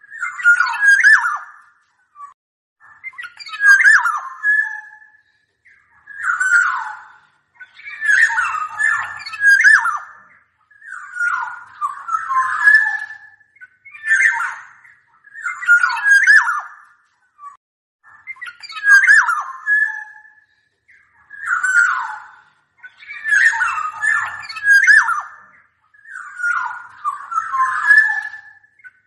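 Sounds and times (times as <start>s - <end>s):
oriole singing fluty whistles: 0.0s - 16.8s, 17.4s - 29.0s.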